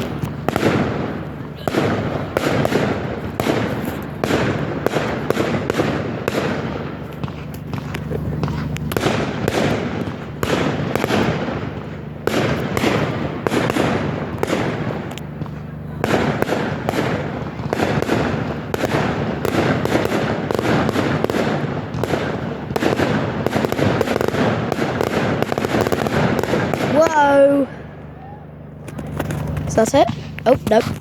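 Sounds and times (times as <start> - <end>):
fireworks bangs and pops: 0.0 - 31.0
fireworks crackling: 0.0 - 31.0.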